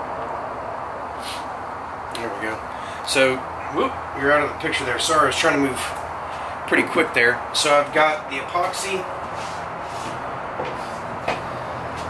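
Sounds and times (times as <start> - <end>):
steady hum with airy hiss: 0.0 - 12.0.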